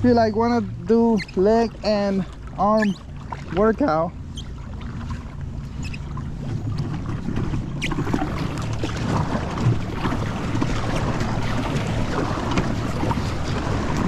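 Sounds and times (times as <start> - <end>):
water churning and splashing: 0.0 - 14.0.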